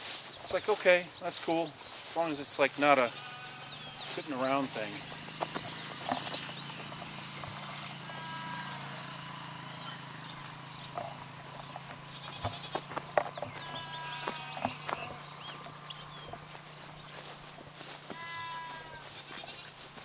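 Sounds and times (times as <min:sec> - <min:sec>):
small birds chirping: 0:00.0 - 0:20.0
farm animals bleating: 0:00.5 - 0:20.0.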